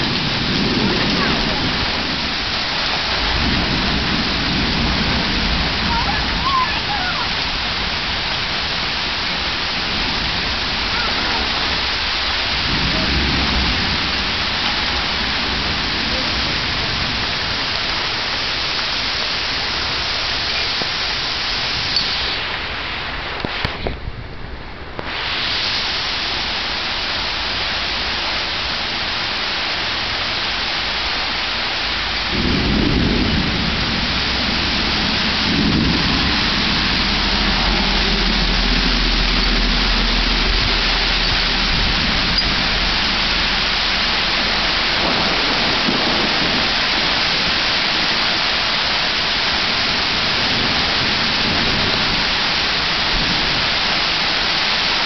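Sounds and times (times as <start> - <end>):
heavy rain falling: 0.0 - 55.0
thunder rumbling: 0.0 - 55.0.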